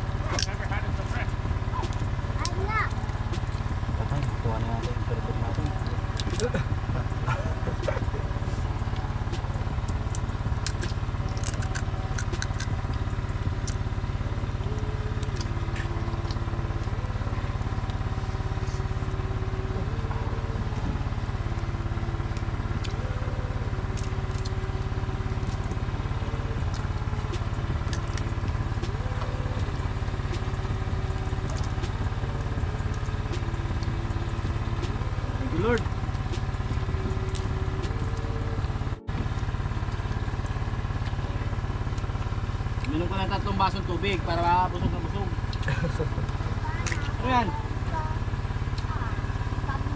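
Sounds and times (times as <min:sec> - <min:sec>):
generator engine humming: 0:00.0 - 0:49.9.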